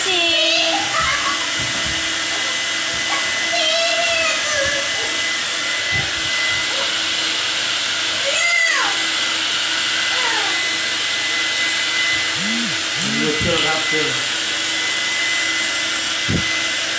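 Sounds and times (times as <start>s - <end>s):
dryer hissing and whining: 0.0s - 16.9s.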